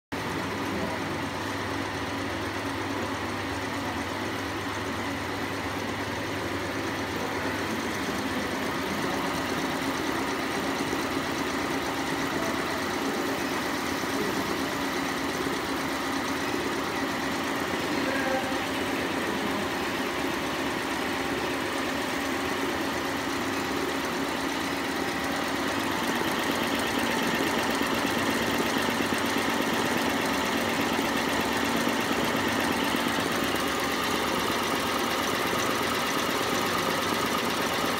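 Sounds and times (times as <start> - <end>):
embroidery machine stitching: 0.2 - 37.9.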